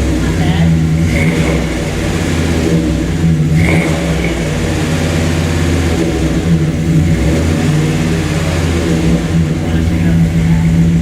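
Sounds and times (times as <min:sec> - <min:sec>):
engine exhaust running steadily: 0:00.0 - 0:11.0.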